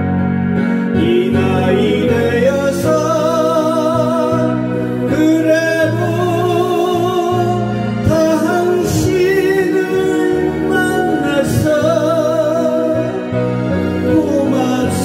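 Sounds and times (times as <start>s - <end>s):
instrumental accompaniment: 0.0s - 15.0s
man singing with vibrato: 0.6s - 15.0s.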